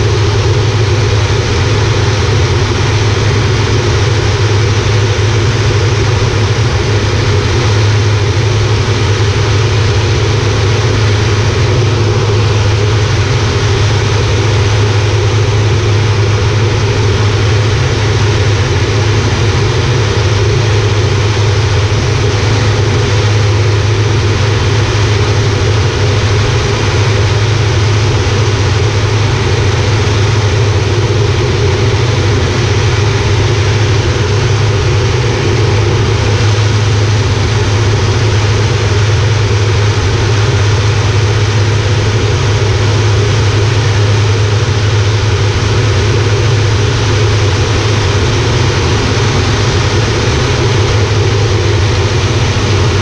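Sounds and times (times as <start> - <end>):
turboprop engine drone in cockpit: 0.0 - 53.0.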